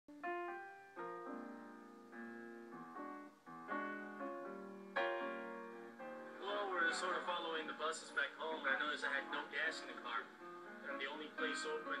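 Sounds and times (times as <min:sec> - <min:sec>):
slow piano chords: 0:00.1 - 0:12.0.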